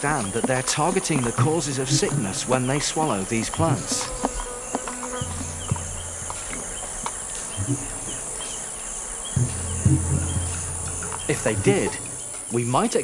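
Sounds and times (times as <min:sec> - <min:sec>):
low hum: 0:00.0 - 0:12.4
faint clicks: 0:00.0 - 0:12.6
forest insects chorus: 0:00.0 - 0:13.0
short insect chirps: 0:00.0 - 0:13.0.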